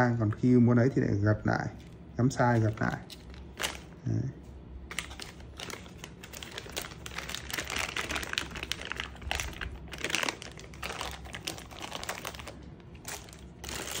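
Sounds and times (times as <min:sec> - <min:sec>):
plastic packaging crinkling: 0:01.8 - 0:04.0, 0:04.9 - 0:14.0.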